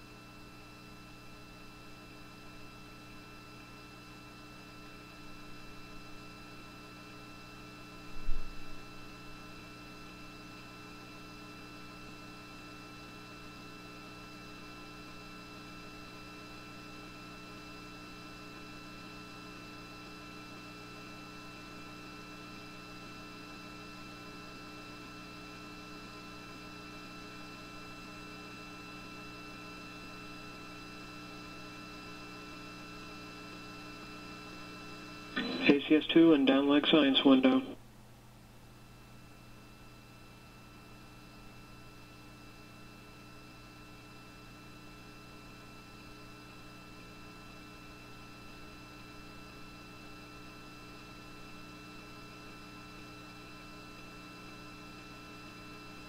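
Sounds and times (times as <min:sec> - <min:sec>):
electrical hum and buzz: 0:00.0 - 0:56.0.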